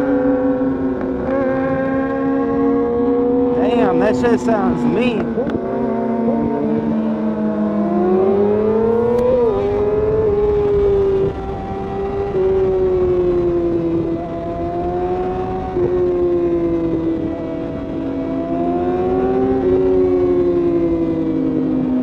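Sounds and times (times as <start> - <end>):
motorcycle engine accelerating: 0.0 - 22.0
wind rushing over microphone: 0.0 - 22.0.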